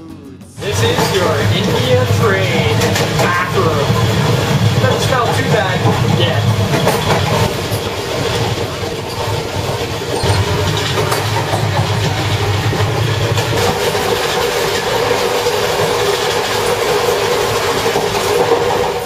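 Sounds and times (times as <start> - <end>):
train wheels on rails: 0.6 - 19.0.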